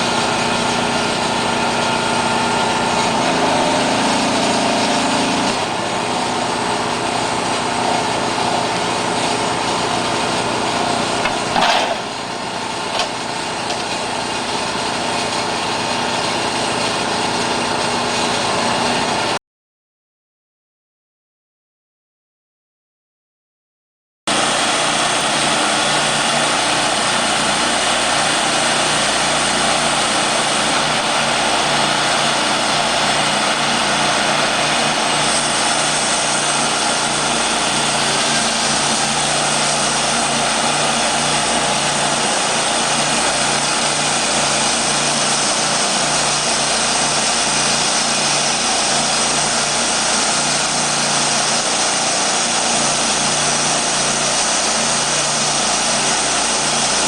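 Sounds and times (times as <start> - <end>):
band sawmill running: 0.0 - 19.4, 24.3 - 57.0.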